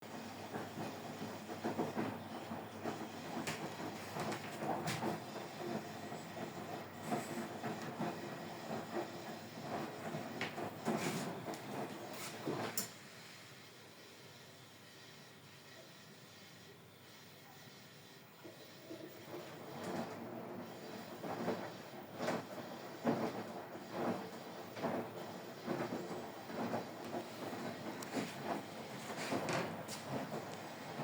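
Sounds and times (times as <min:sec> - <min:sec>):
washing machine running: 0:00.0 - 0:31.0.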